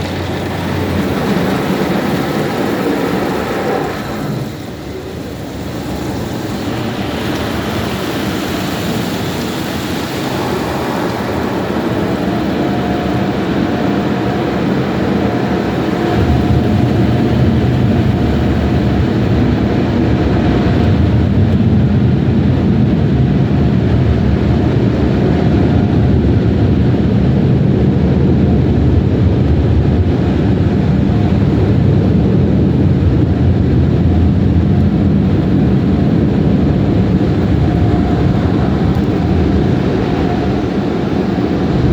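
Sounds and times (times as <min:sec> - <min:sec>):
air-dryer blowers rushing: 0:00.0 - 0:22.2, 0:30.3 - 0:41.9.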